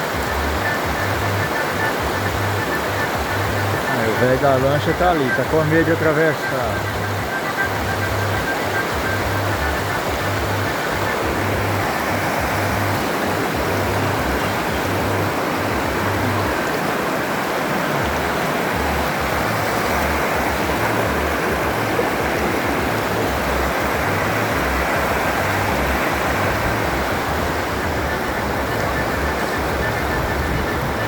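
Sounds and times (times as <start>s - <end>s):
creek water pouring over rocks: 0.0s - 31.0s
waterfall rushing: 0.0s - 31.0s.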